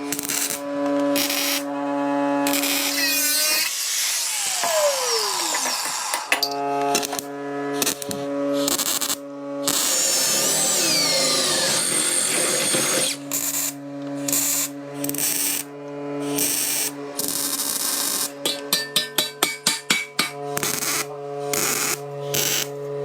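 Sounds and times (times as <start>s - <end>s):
power tool whining: 0.0s - 18.8s, 20.1s - 23.0s.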